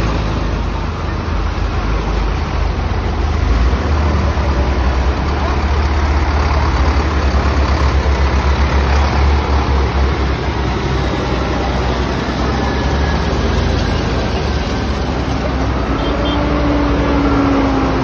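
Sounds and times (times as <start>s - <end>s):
diesel tractor engines rumbling: 0.0s - 18.0s.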